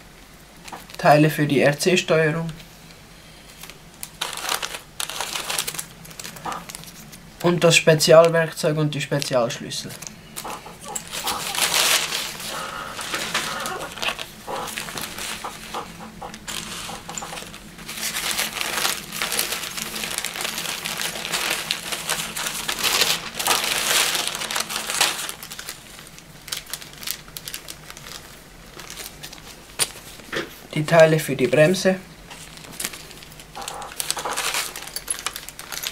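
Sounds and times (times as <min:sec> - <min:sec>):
packing paper rustling and crinkling: 0:00.6 - 0:01.2, 0:03.3 - 0:35.9.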